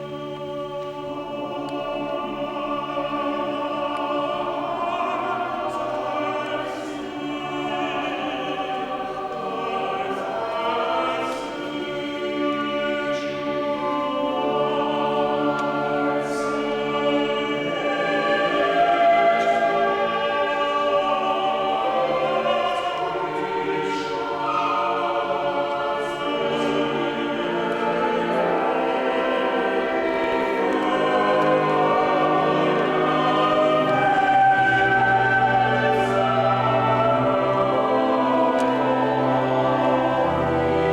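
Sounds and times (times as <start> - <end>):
choir singing held chords: 0.0 - 40.9.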